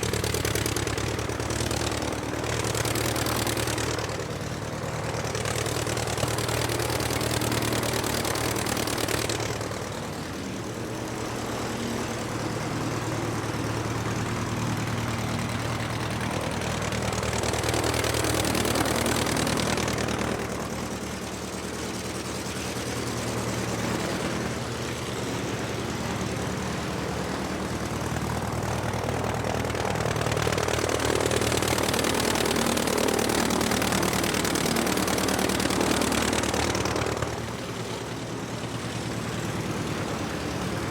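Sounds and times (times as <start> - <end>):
aircraft engine running: 0.0 - 40.9.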